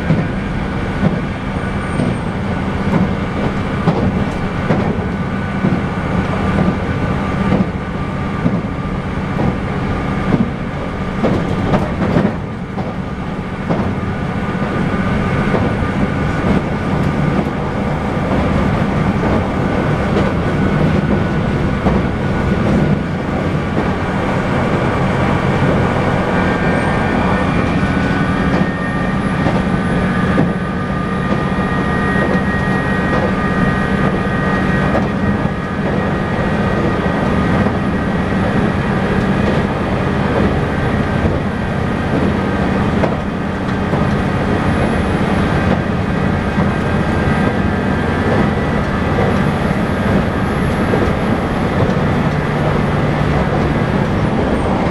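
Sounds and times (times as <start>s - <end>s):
train engine and wheels drone: 0.0s - 54.9s.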